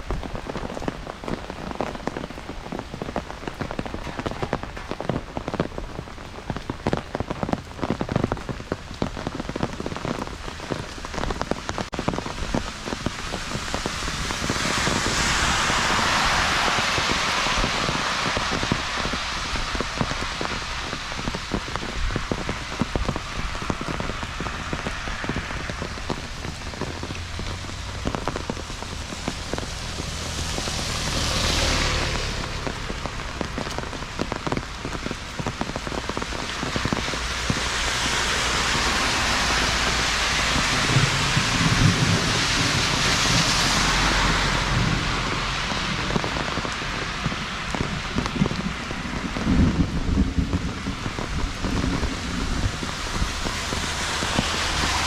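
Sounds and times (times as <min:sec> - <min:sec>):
rain pattering on street: 0:00.0 - 0:55.0.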